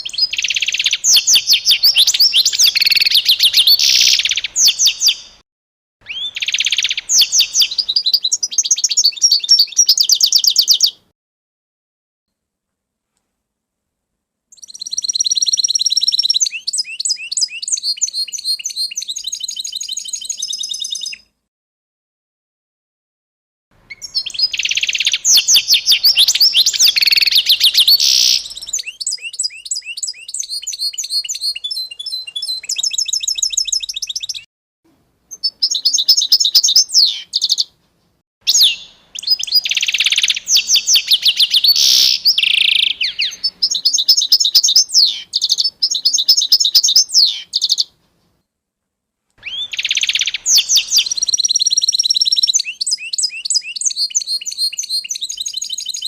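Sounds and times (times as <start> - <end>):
songbirds chirping and singing: 0.0 - 5.4, 6.0 - 11.0, 14.6 - 21.2, 23.9 - 34.5, 35.3 - 37.7, 38.5 - 48.0, 49.4 - 56.0.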